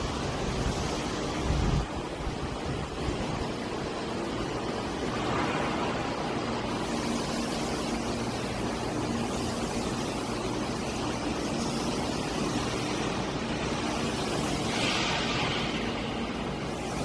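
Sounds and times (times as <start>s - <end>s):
continuous hiss: 0.0s - 17.0s.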